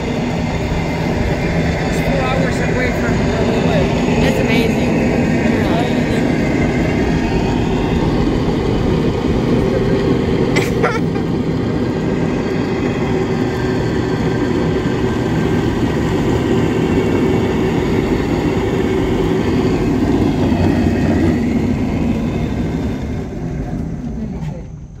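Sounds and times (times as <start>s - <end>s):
cable car mechanical rumble: 0.0s - 25.0s
pulley wheels humming: 0.0s - 25.0s.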